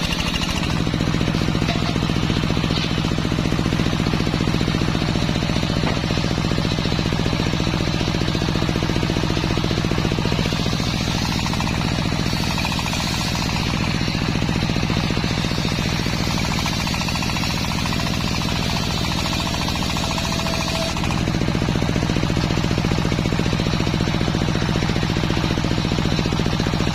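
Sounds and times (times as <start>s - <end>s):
saw blade cutting wood: 0.0s - 23.1s
sawmill engine pulsing: 0.0s - 26.9s.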